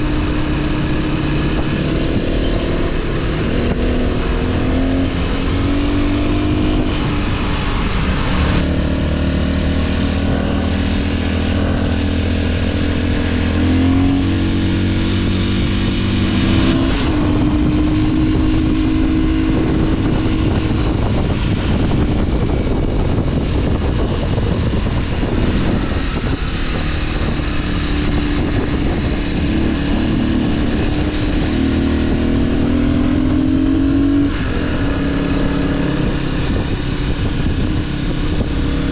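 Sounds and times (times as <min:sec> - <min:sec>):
motorcycle engine shifting gears: 0:00.0 - 0:38.9
rushing wind noise: 0:00.0 - 0:38.9.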